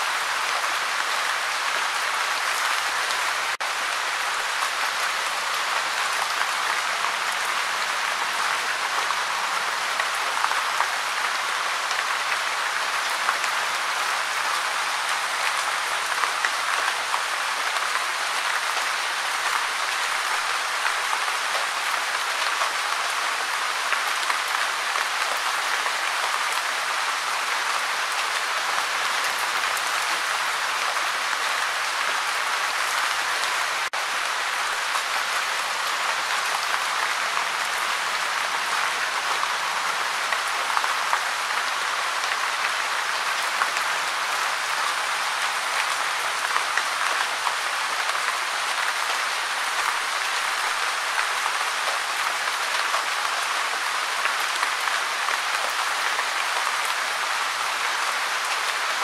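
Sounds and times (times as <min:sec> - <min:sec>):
steady gentle rain: 0:00.0 - 0:59.0.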